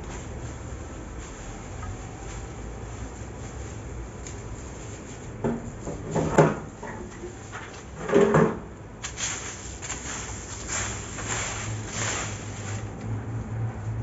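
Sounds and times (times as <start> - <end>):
broom sweeping leaves: 0.0 - 7.7, 9.0 - 13.6.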